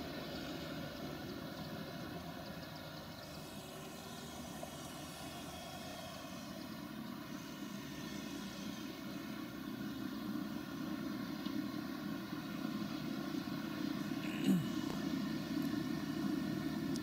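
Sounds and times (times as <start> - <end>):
farm vehicle engine running: 0.0 - 17.0.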